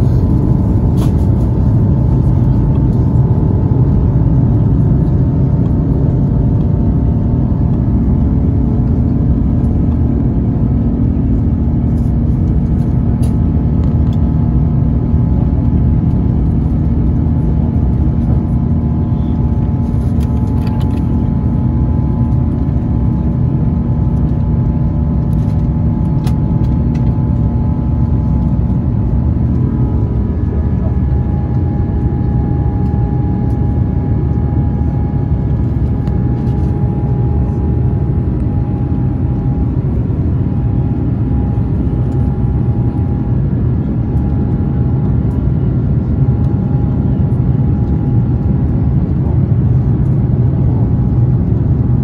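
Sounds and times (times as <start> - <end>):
jet engines roaring in cabin: 0.0 - 52.0.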